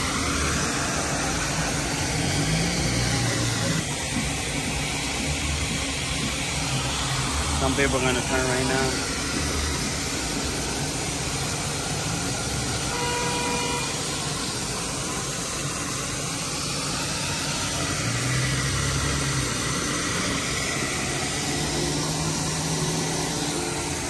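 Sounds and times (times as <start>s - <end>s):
fire hydrant water gushing: 0.0s - 24.0s.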